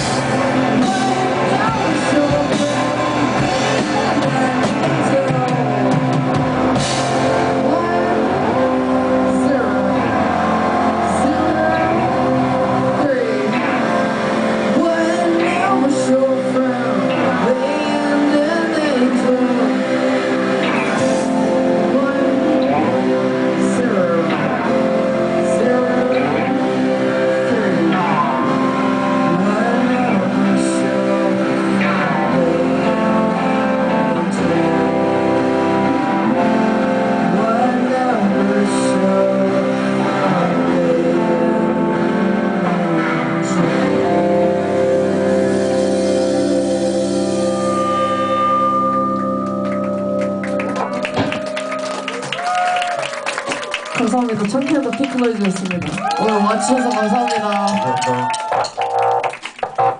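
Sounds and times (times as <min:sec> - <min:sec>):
guitar with sliding pitches: 0:00.0 - 0:56.6
live band playing: 0:00.0 - 0:59.9.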